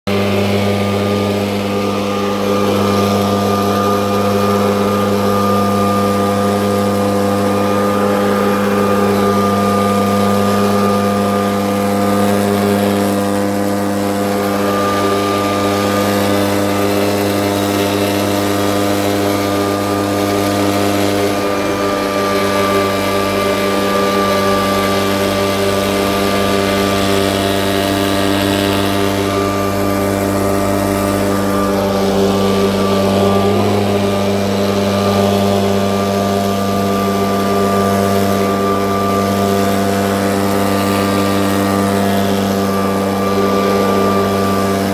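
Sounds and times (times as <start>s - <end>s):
snow blower engine running: 0.0s - 44.9s.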